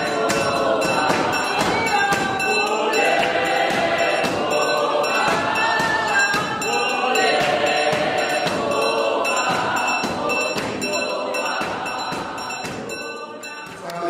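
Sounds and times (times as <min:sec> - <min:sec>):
music with a steady beat: 0:00.0 - 0:13.9
choir singing: 0:00.0 - 0:14.0.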